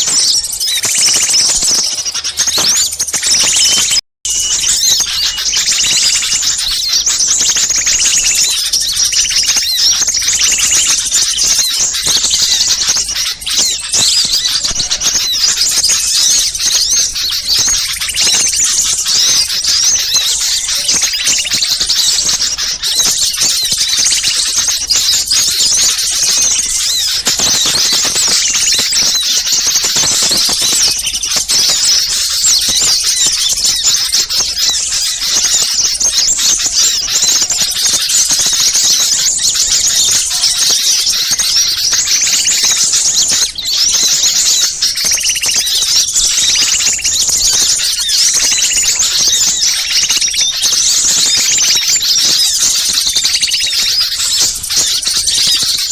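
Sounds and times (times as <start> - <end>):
flock of songbirds chirping: 0.0 - 55.9.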